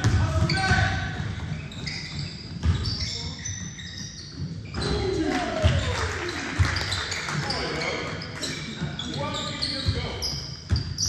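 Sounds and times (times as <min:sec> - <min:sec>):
sneakers squeaking on floor: 0:00.0 - 0:11.0
voices in echoing hall: 0:00.0 - 0:11.0.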